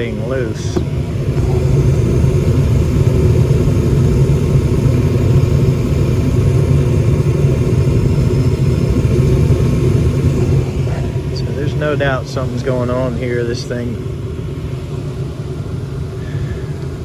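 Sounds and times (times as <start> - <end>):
gas furnace burner and blower rumble: 0.0 - 17.0.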